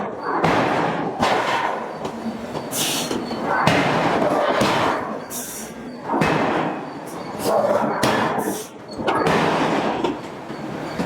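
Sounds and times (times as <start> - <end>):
forging hammer blows: 0.0 - 11.0.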